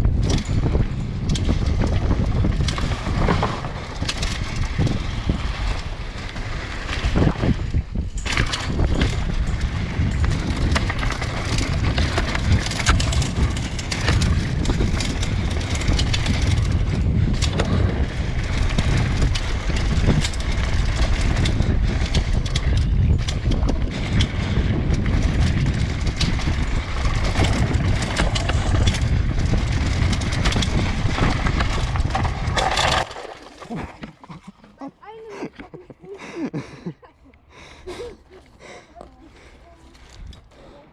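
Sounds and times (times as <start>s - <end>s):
bike tyres rumbling over dirt: 0.0s - 34.4s
bike rattling and clattering: 0.0s - 34.6s.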